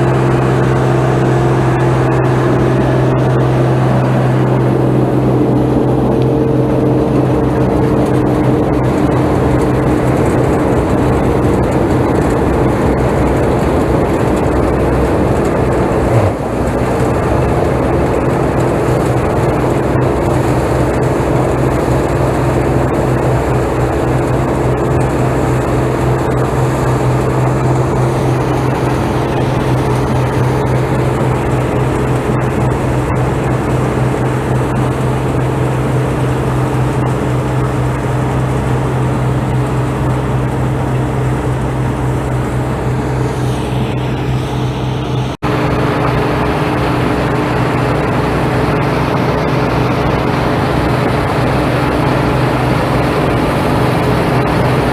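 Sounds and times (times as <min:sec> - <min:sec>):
combine harvester engine droning: 0:00.0 - 0:54.9.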